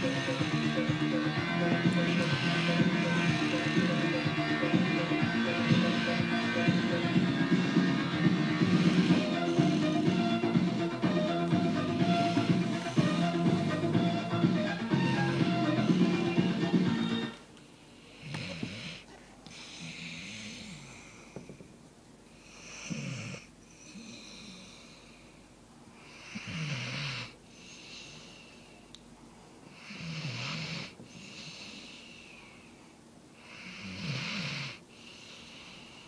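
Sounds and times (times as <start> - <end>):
dog snoring: 0.0 - 16.8, 18.0 - 21.6, 22.4 - 25.2, 26.0 - 28.6, 29.7 - 32.6, 33.4 - 36.0
soft hissy breath: 0.0 - 36.0.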